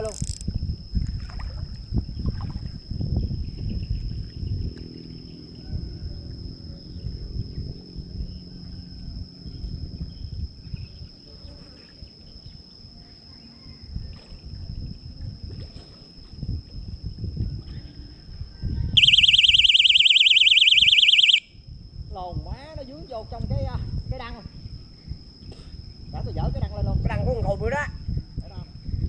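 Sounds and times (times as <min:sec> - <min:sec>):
high-pitched insect trill: 0:00.0 - 0:29.0
wind rumbling on microphone: 0:00.0 - 0:29.0.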